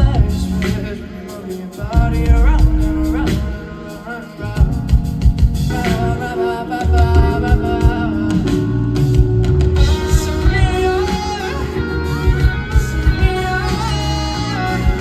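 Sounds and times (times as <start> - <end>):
live pop band playing: 0.0 - 15.0
person singing: 0.0 - 15.0.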